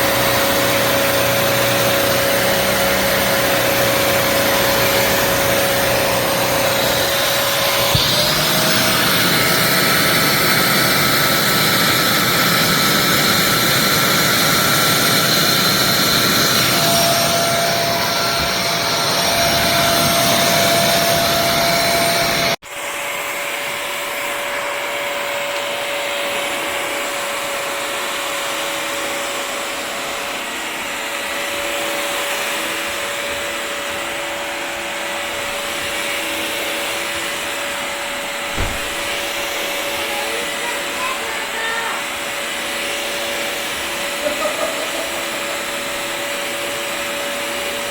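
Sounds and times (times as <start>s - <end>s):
floor cleaner motor whine: 0.0s - 47.9s.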